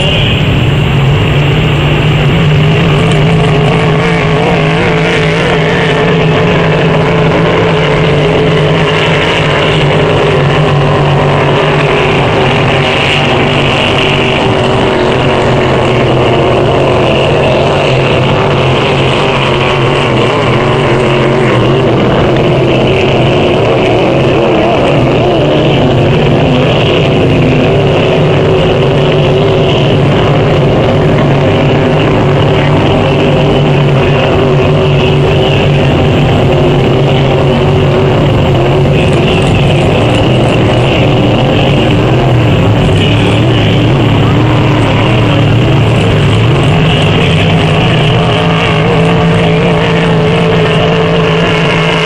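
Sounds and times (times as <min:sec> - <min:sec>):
racing boat engines droning: 0:00.0 - 0:52.0.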